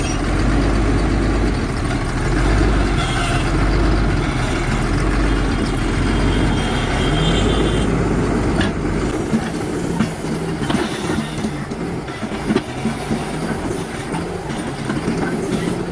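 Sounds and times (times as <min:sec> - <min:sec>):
diesel engine humming: 0:00.0 - 0:15.9.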